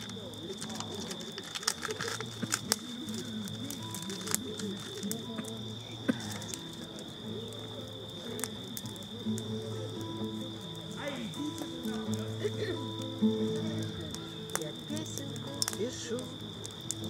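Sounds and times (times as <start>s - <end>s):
crickets chirping: 0.0s - 17.0s
low indistinct voices: 0.0s - 17.0s.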